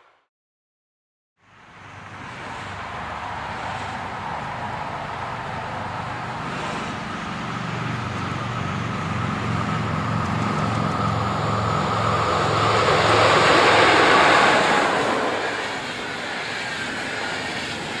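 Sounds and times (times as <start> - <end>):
electric locomotive hum: 1.7 - 18.0
train rushing past: 1.8 - 18.0.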